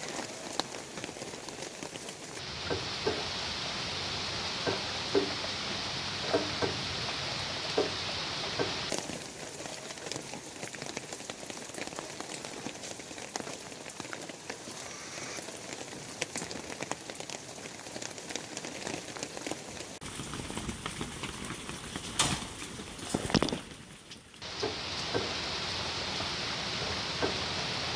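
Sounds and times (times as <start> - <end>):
rain pattering: 0.0 - 27.9.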